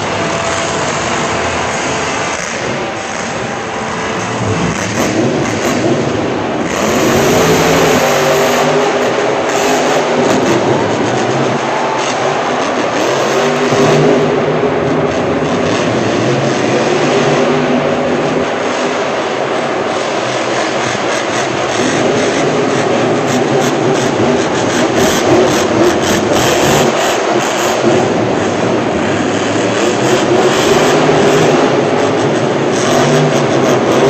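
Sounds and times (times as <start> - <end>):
monster truck engine running: 0.0 - 34.0.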